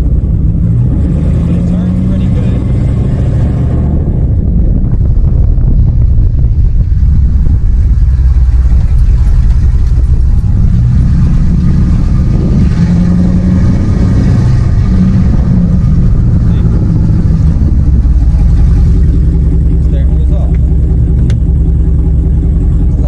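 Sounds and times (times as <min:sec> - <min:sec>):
truck engine and exhaust droning: 0:00.0 - 0:23.0.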